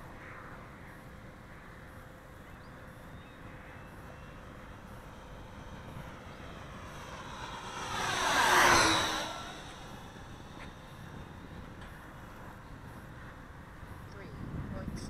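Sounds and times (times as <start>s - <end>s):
model airplane engine drone: 0.0s - 15.0s.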